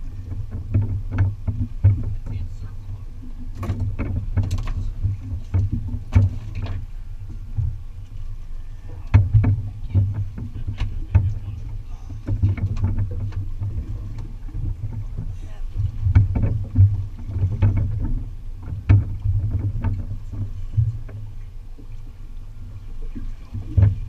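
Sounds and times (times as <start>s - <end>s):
low boat rumble: 0.0s - 24.0s.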